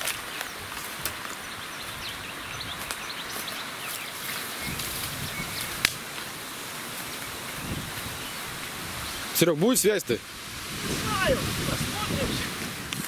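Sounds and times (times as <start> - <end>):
small birds chirping faintly: 0.0 - 11.4
steady outdoor hiss: 0.0 - 13.0.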